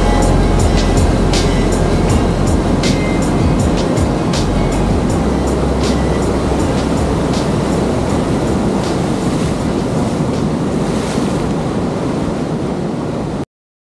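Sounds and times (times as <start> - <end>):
surf breaking on a beach: 0.0 - 13.4
wind on the microphone: 0.0 - 13.4.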